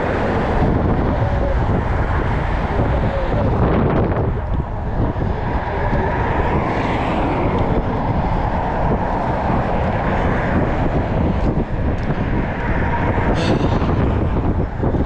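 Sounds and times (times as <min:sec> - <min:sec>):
car passing close: 0:00.0 - 0:15.0
heavy low rumble: 0:00.0 - 0:15.0
highway traffic noise: 0:00.0 - 0:15.0.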